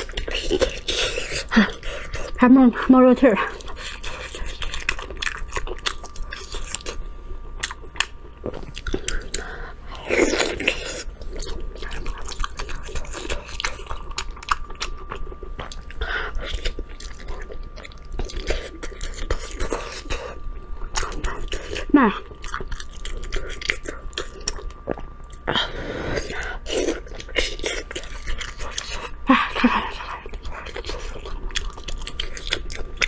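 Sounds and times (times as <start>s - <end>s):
wet chewing and biting: 0.0s - 33.0s.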